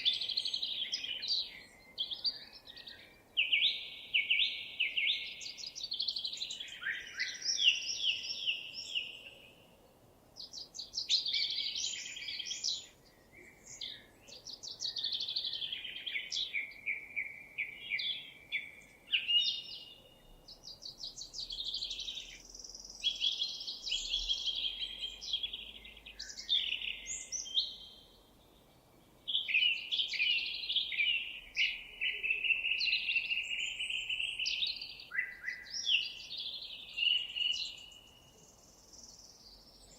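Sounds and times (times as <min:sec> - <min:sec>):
songbird trilling and chirping: 0:00.0 - 0:09.7, 0:10.4 - 0:28.7, 0:29.3 - 0:39.9.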